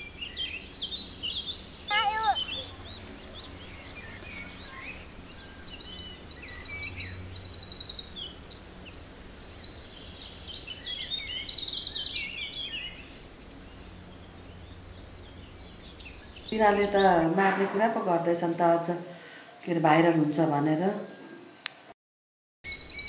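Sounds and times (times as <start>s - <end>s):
songbirds chirping and trilling: 0.0s - 21.3s, 22.7s - 23.0s
low outdoor background: 0.0s - 22.0s.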